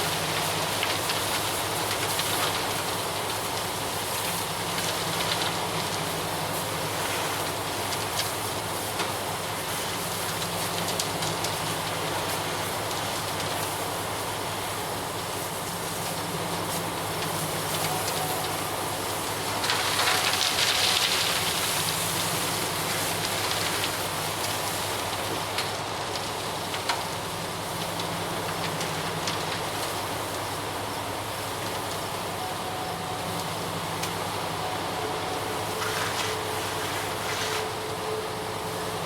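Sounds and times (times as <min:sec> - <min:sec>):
heavy diesel truck engine running: 0:00.0 - 0:39.0.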